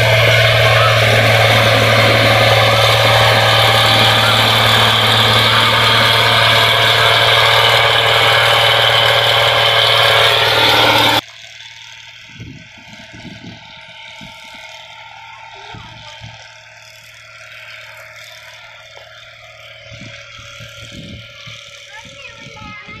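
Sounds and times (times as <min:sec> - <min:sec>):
combine harvester droning: 0:00.0 - 0:23.0.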